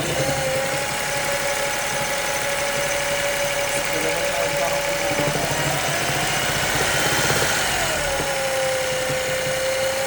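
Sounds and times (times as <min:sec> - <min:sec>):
car engine idling: 0:00.0 - 0:10.0
steady engine whine: 0:00.0 - 0:10.0.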